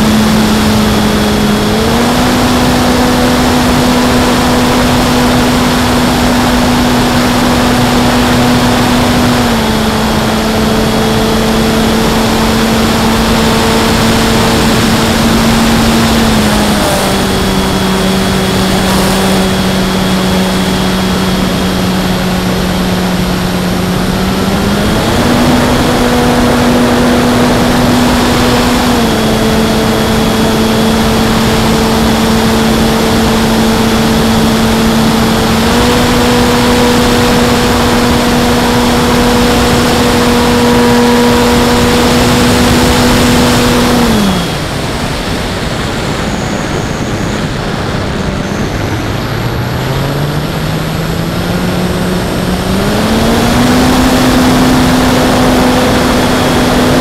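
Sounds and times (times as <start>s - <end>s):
model airplane motor and propeller: 0.0s - 57.0s.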